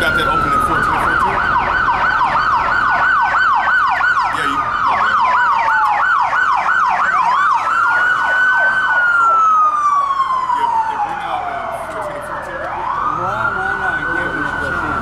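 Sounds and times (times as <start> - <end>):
siren yelping: 0.0 - 15.0
wailing siren tone: 0.0 - 15.0.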